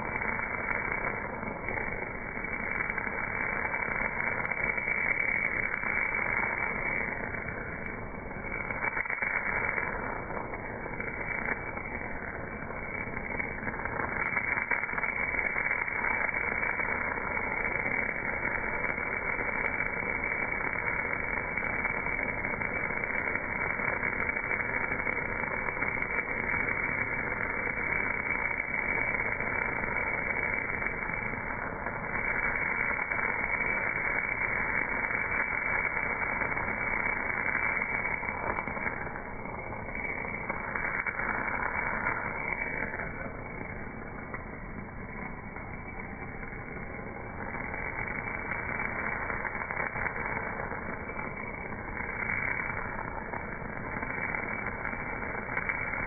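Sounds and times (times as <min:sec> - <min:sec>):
welding arc hiss and crackle: 0:00.0 - 0:56.0.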